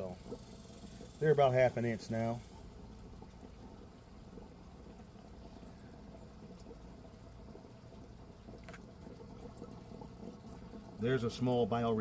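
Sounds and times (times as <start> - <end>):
fish tank air stone bubbling: 0.0 - 11.0.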